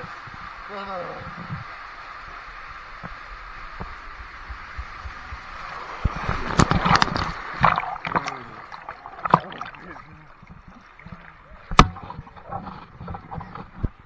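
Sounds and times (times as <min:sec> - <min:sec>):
water rushing through tube slide: 0:01.6 - 0:13.8.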